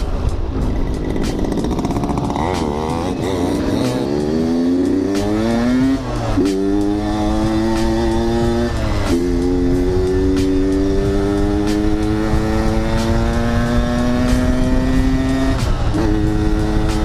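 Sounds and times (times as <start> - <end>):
motorcycle engine revving: 0.5 - 17.0.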